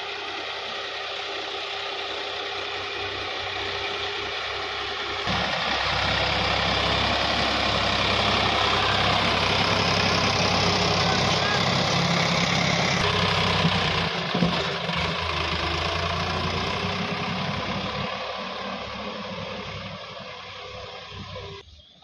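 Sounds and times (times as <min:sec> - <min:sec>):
tractor diesel engine running: 0:00.0 - 0:21.7.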